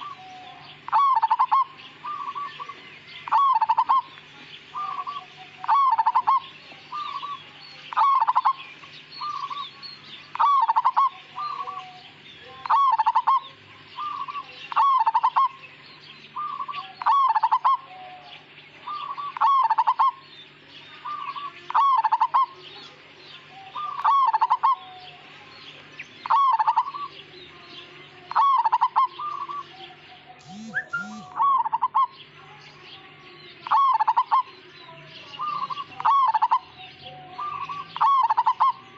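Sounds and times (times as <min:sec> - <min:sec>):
dove cooing: 0:00.0 - 0:15.6, 0:16.4 - 0:20.3, 0:21.0 - 0:25.3, 0:26.2 - 0:32.3, 0:33.6 - 0:34.6, 0:35.3 - 0:38.9
small birds chirping: 0:00.0 - 0:38.9.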